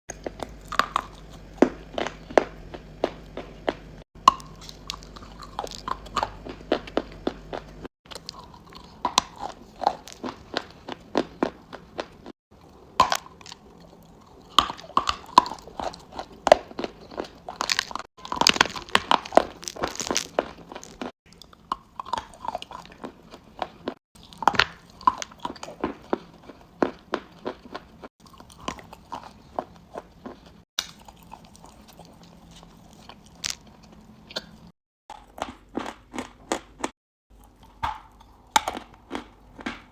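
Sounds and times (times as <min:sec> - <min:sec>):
person chewing crunchy chalk: 0:00.1 - 0:39.9.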